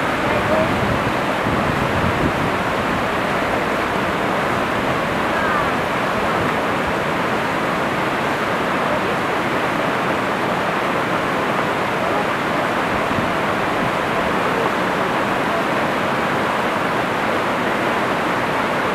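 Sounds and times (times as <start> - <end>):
whitewater rushing over rapids: 0.0 - 18.9.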